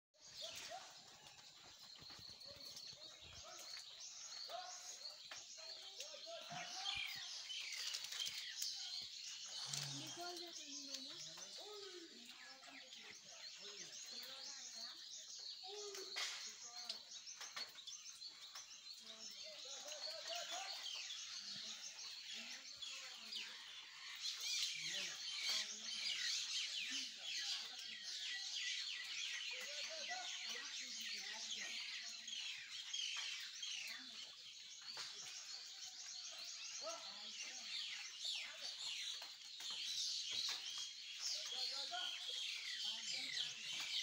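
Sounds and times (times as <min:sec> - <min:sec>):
birds chirping: 0:00.2 - 0:44.0.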